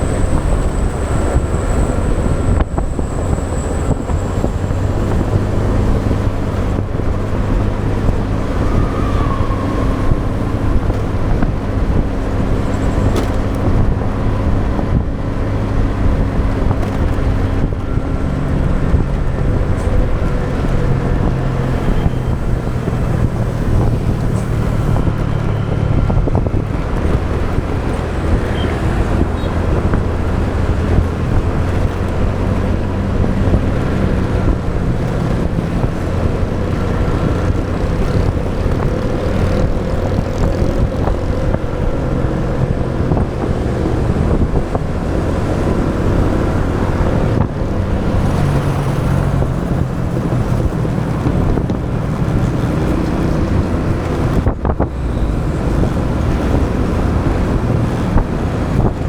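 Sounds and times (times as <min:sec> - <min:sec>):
road and wind noise: 0:00.0 - 0:59.0
surrounding traffic: 0:00.0 - 0:59.0.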